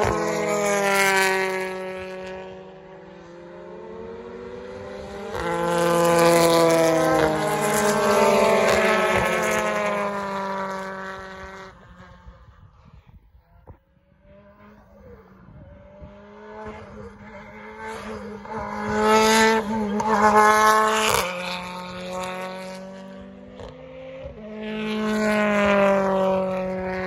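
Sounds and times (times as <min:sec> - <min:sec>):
second engine passing: 0:00.0 - 0:12.8, 0:14.1 - 0:27.0
racing car engine passing: 0:00.0 - 0:13.1, 0:13.9 - 0:27.0.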